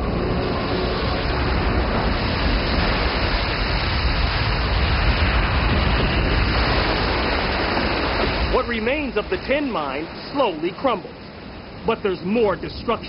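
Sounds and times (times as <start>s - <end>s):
heavy low rumble: 0.0s - 13.0s
seawater rushing roar: 0.0s - 13.0s.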